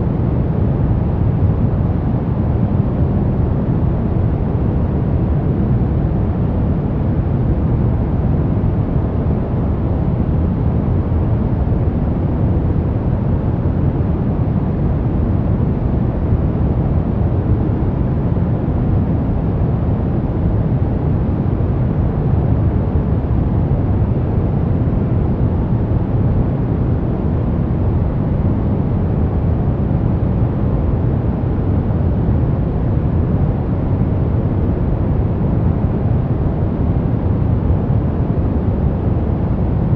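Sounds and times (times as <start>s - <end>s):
deep rumbling steady noise: 0.0s - 39.9s.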